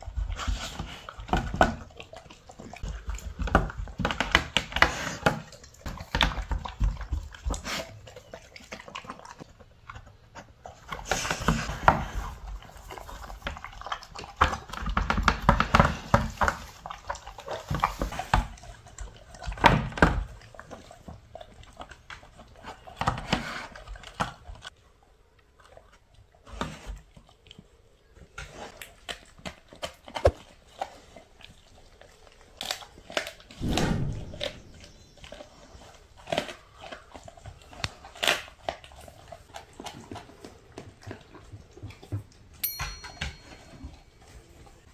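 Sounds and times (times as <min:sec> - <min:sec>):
dog chewing and crunching food: 0:00.0 - 0:44.9.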